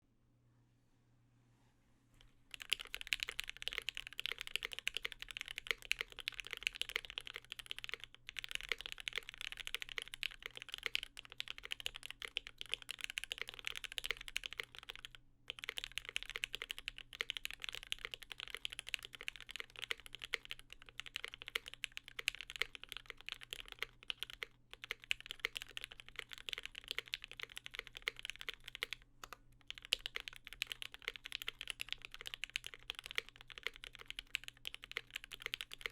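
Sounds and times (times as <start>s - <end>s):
mechanical keyboard typing: 2.5s - 35.9s.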